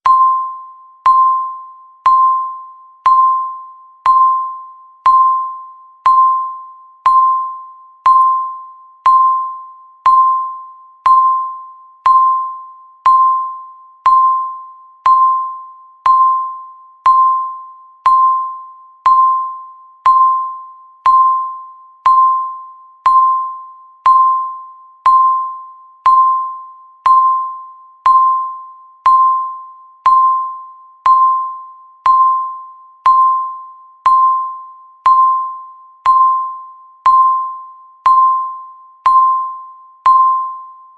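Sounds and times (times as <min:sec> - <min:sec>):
timer ticking with ringing tone: 0:00.0 - 0:40.9.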